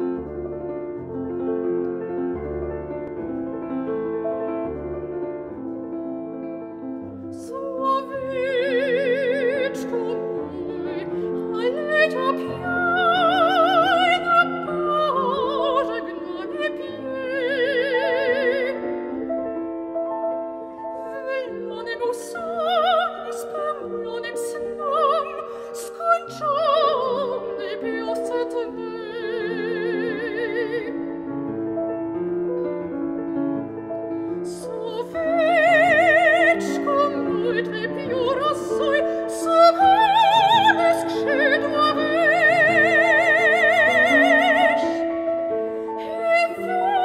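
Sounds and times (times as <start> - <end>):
piano accompaniment: 0.0 - 47.0
soprano singing: 0.0 - 47.0.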